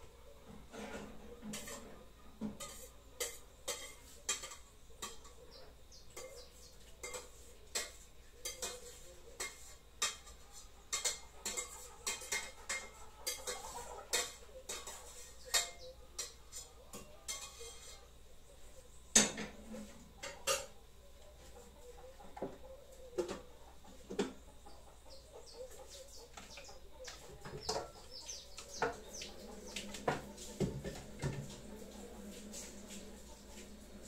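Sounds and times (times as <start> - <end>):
utensils clinking against dishes: 0.6 - 18.2, 19.1 - 20.8, 23.2 - 33.7.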